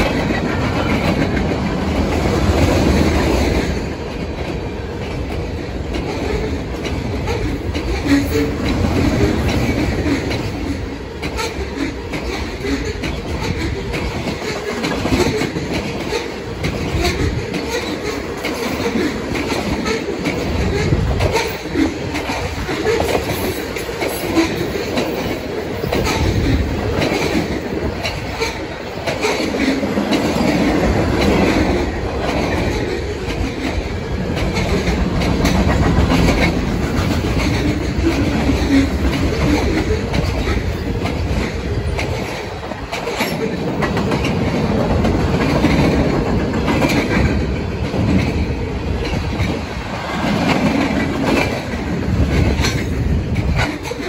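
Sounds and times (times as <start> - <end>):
train wheels rumbling on rail: 0.0 - 54.0
wheels clattering over rail joints: 0.0 - 54.0.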